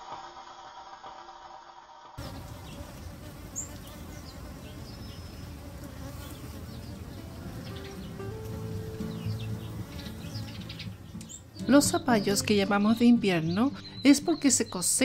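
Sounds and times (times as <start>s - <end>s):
bees buzzing: 2.2s - 14.7s.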